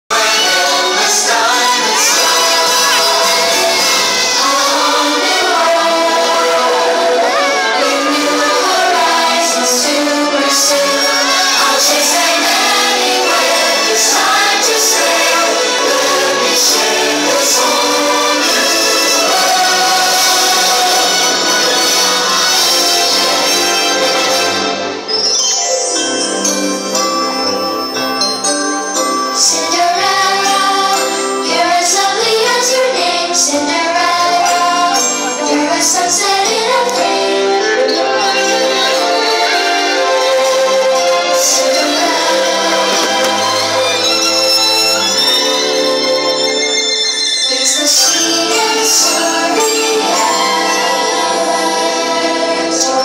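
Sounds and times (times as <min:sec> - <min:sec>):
choir singing sustained notes: 0:00.1 - 0:25.1, 0:29.0 - 0:46.7, 0:47.6 - 0:53.0
loud music: 0:00.1 - 0:53.0.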